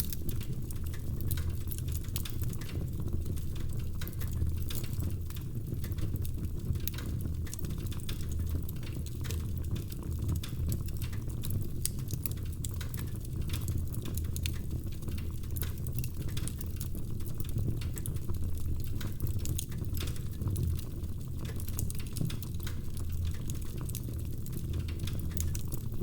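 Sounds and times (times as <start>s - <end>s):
low rumble of flames: 0.0s - 26.0s
wood fire pops and snaps: 0.0s - 26.0s.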